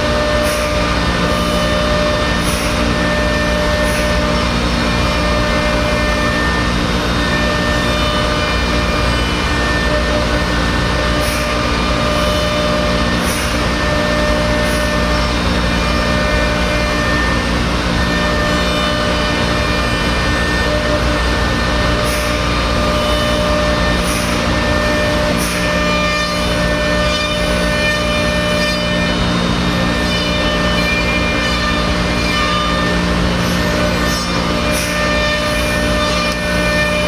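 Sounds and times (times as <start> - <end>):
cnc router milling: 0.0 - 37.0.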